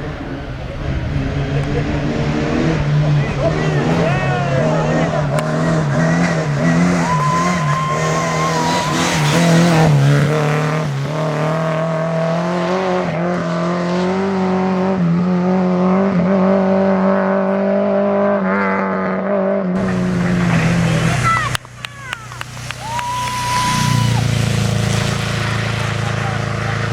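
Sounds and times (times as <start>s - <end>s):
rally car engine at high revs: 0.0s - 26.9s.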